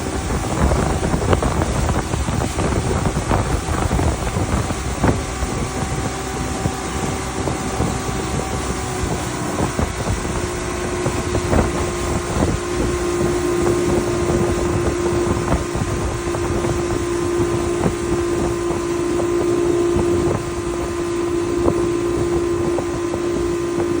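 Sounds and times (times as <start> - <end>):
motorboat engine running: 0.0 - 24.0
wind buffeting microphone: 0.0 - 24.0.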